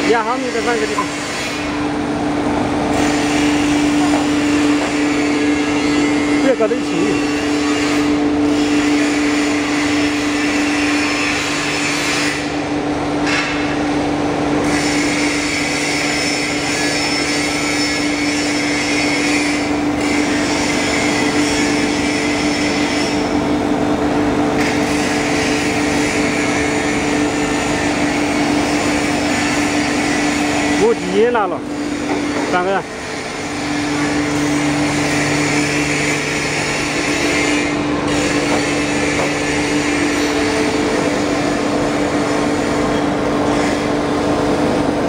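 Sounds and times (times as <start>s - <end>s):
machine hum: 0.0s - 45.0s.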